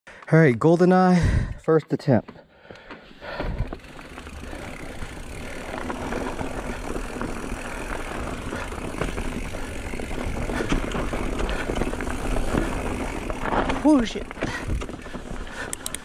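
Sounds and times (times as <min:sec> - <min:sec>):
bike rattling over bumps: 0:02.8 - 0:16.0
bike tyre rumble: 0:03.0 - 0:16.0.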